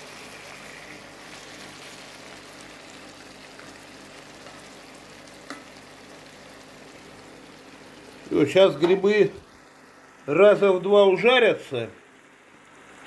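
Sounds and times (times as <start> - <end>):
mushrooms sizzling in a pan: 0.0 - 13.0.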